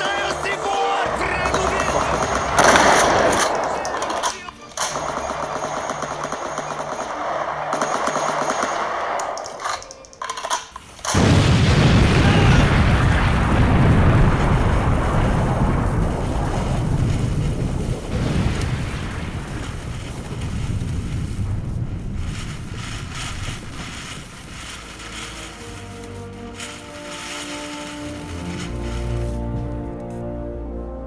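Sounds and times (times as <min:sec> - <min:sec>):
firework fountains bursting: 0:00.0 - 0:30.5.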